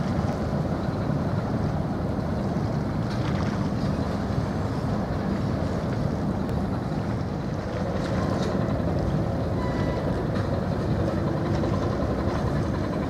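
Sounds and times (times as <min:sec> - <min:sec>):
seaside rumble and hiss: 0:00.0 - 0:13.0.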